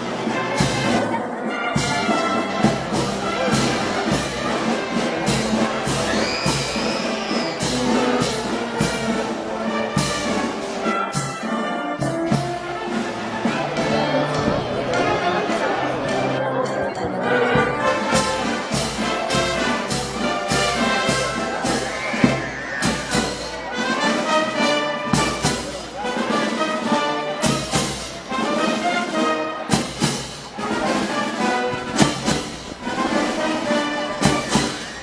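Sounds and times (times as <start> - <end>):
steady drum beat: 0.0 - 16.2, 17.3 - 35.0
brass band playing: 0.0 - 35.0.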